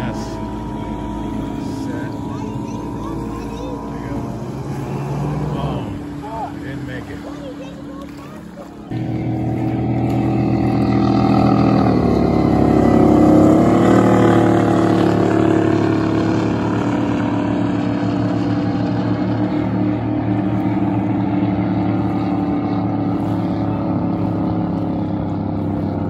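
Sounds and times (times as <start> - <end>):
race boat engines passing: 0.0 - 26.0.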